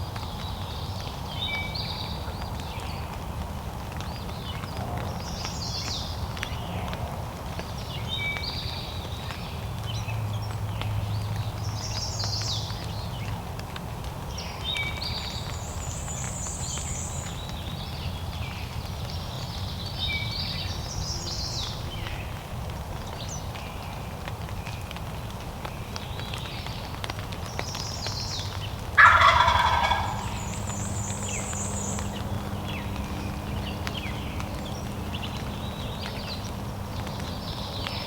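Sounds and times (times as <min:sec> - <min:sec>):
songbirds singing: 0:00.0 - 0:13.5, 0:14.2 - 0:38.0.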